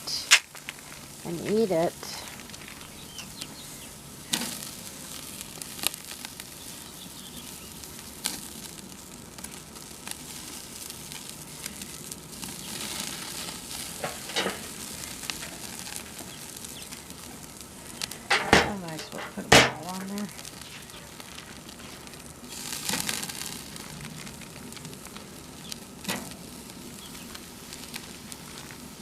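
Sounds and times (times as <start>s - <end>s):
meat sizzling on a grill: 0.0s - 29.0s.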